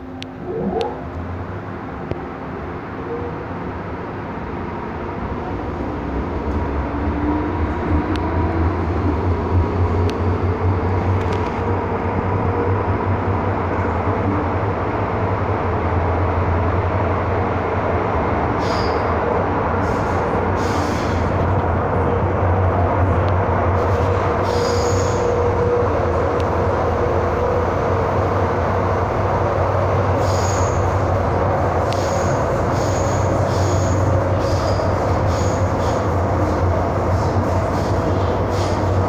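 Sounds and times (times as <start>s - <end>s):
metro train rumble and hum: 0.0s - 39.0s.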